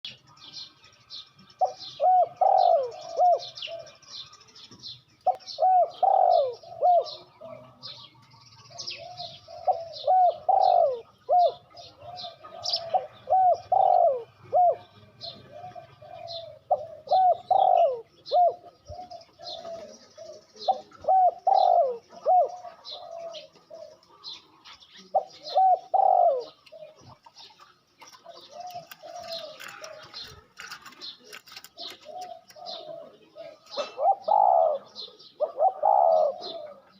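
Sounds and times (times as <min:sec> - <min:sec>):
small birds chirping: 0:00.0 - 0:36.9
dove cooing: 0:01.5 - 0:36.9.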